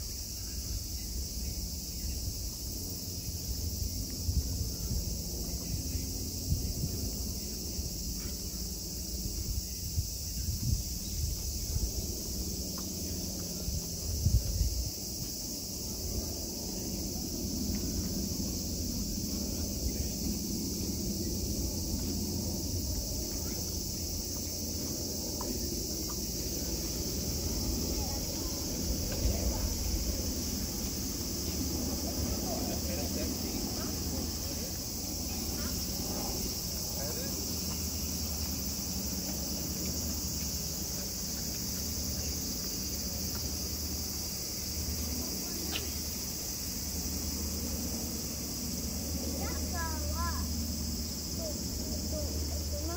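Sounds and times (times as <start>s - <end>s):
insect chorus: 0.0s - 52.9s
low uneven rumble: 10.3s - 52.9s.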